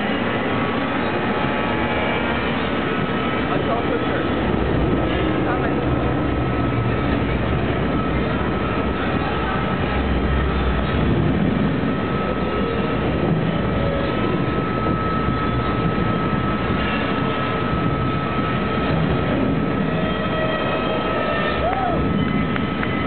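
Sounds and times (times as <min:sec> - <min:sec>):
roar of wind and rumble: 0:00.0 - 0:23.0.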